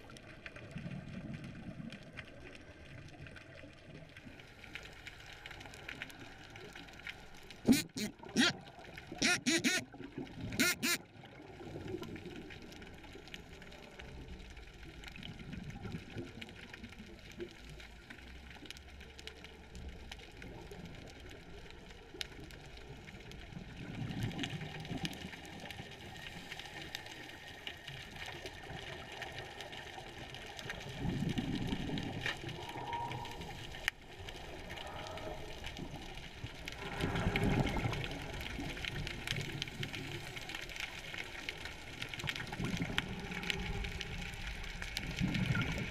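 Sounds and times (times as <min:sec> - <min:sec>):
muffled underwater ambience: 0:00.0 - 0:45.9.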